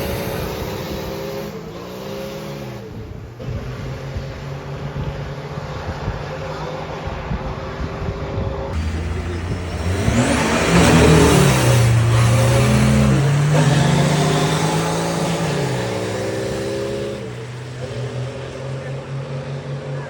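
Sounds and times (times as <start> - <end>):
truck engine revving hard: 0.0 - 20.0.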